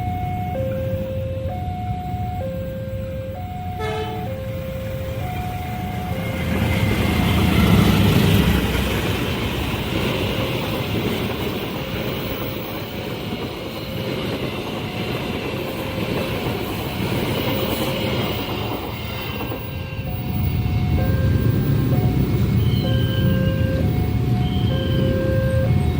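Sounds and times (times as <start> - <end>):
train wheels clattering on rails: 5.1 - 25.9.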